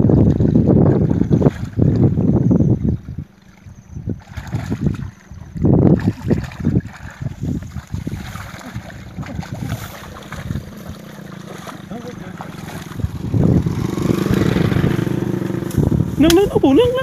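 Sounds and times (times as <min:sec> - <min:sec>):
muddy water splashing: 0:00.0 - 0:17.0
wind buffeting microphone: 0:00.0 - 0:17.0.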